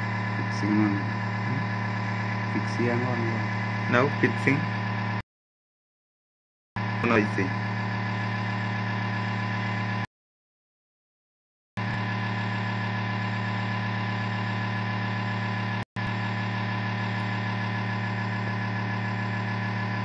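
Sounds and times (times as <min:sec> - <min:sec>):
hot air station humming: 0:00.0 - 0:05.2, 0:06.8 - 0:10.1, 0:11.8 - 0:20.0.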